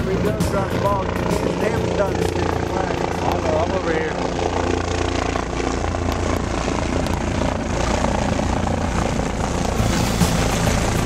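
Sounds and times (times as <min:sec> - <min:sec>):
helicopter flying overhead: 0:00.0 - 0:11.0.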